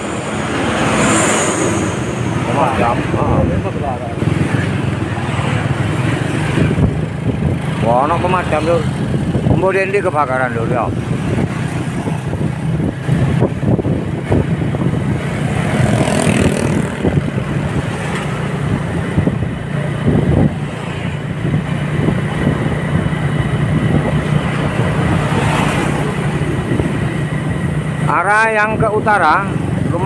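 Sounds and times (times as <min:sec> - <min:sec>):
motorcycles and cars passing: 0:00.0 - 0:30.0
road noise: 0:00.0 - 0:30.0
vehicle engine hum: 0:00.0 - 0:30.0.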